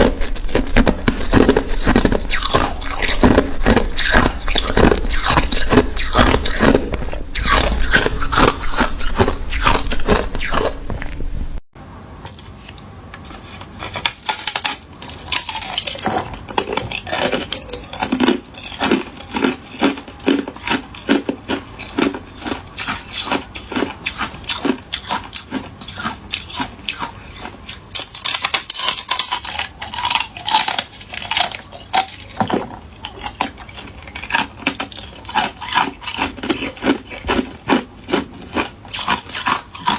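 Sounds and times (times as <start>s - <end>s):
ice cubes crunching: 0.0s - 11.3s, 14.2s - 39.9s.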